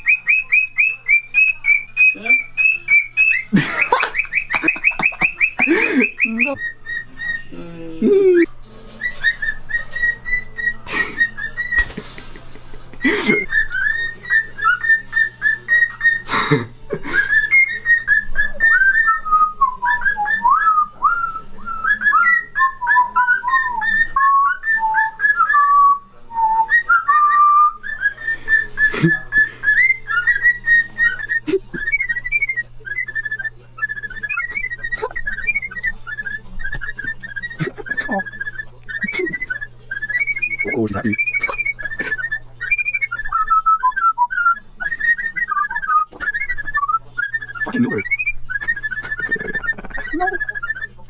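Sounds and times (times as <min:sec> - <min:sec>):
bird whistling: 0:00.0 - 0:07.6, 0:09.0 - 0:12.0, 0:13.3 - 0:16.3, 0:17.2 - 0:51.0.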